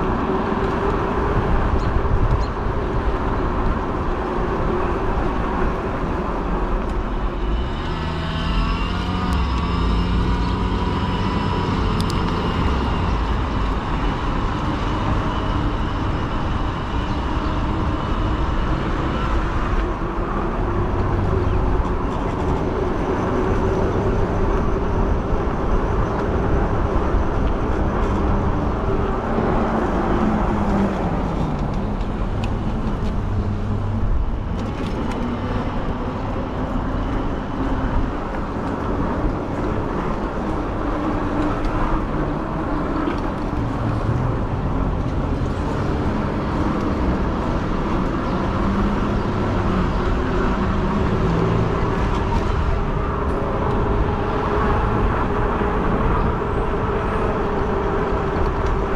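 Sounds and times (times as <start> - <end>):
tire and motor hum: 0.0 - 58.9
wind rumble on microphone: 0.0 - 58.9.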